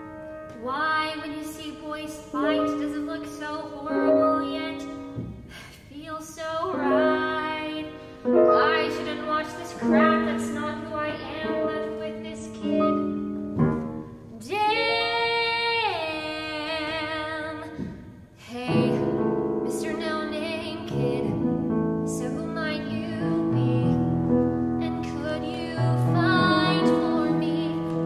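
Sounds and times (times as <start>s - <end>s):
grand piano accompaniment: 0.0s - 28.0s
woman singing with vibrato: 0.5s - 13.4s, 14.3s - 21.5s, 22.1s - 24.0s, 24.8s - 28.0s.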